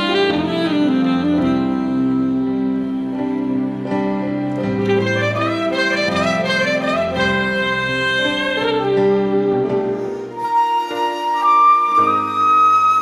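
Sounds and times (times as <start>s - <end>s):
backing track: 0.0s - 13.0s
saxophone melody: 0.0s - 13.0s.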